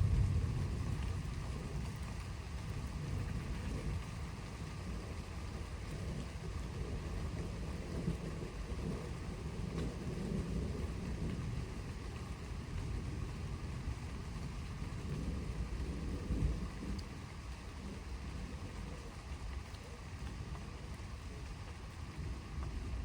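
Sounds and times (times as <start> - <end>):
distant thunder rumbling: 0.0 - 19.6
rain: 0.0 - 23.0.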